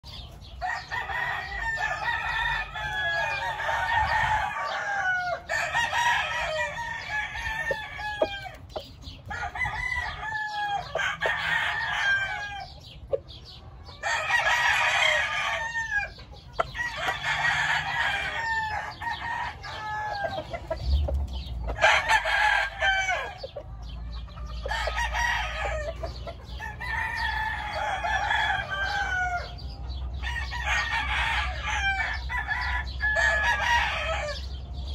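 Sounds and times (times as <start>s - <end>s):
roosters crowing: 0.1s - 34.9s.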